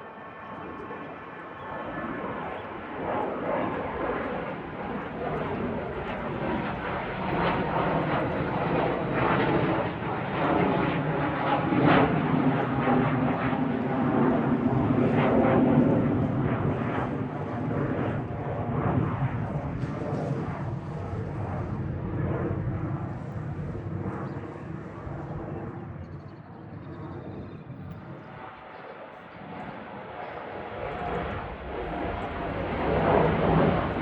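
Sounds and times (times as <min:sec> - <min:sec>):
airplane engines at takeoff: 0:00.0 - 0:34.0.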